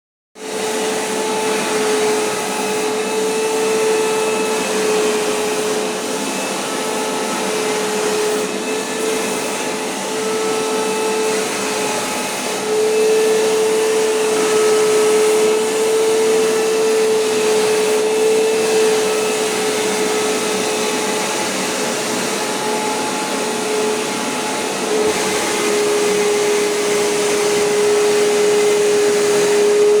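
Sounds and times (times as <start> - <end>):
vacuum cleaner running: 0.4 - 30.0.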